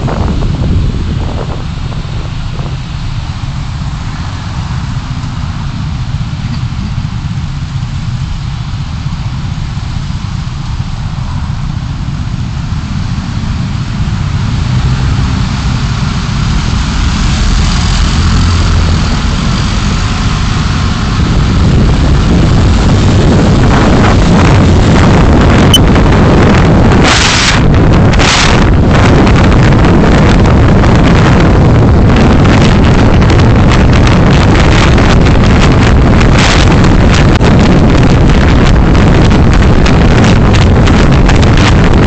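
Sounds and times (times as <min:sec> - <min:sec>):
car engine and road noise: 0:00.0 - 0:42.0
rushes of noise: 0:00.0 - 0:42.0.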